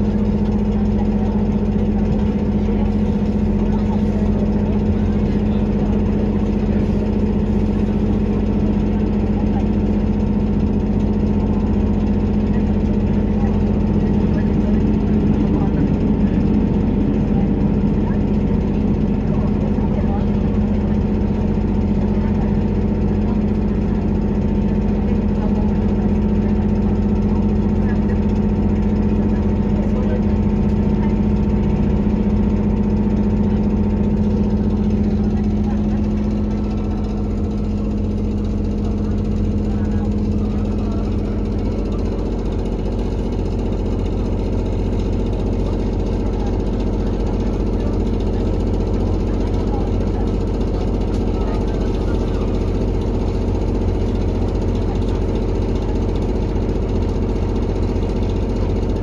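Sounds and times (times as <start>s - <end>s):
diesel railcar engine drone: 0.0s - 59.0s
engine clattering rattle: 0.0s - 59.0s.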